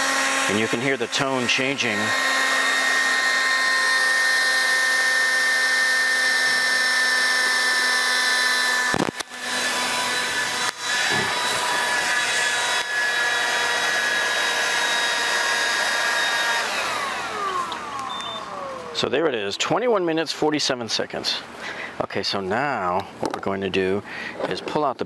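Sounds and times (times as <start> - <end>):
handheld blower fan whine: 0.0 - 22.0.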